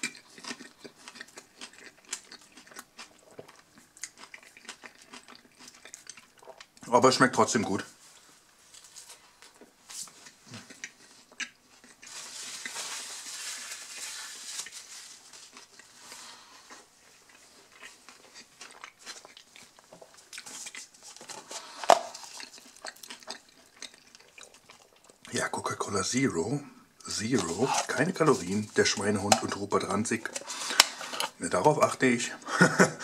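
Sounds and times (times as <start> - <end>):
person chewing food: 0.0 - 6.9, 8.2 - 13.1, 14.0 - 25.3, 26.9 - 31.4.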